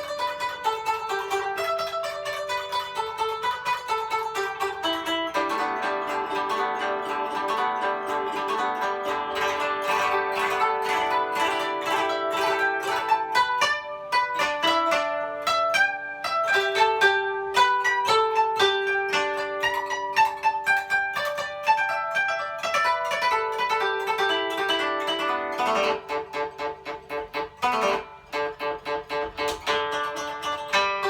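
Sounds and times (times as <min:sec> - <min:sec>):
koto plucked notes: 0:00.0 - 0:31.0.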